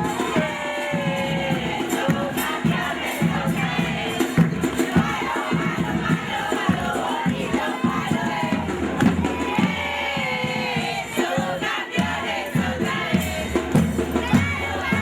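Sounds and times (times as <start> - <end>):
loud music with a beat: 0.0 - 10.1, 10.7 - 15.0
crowd shouting and cheering: 0.0 - 15.0.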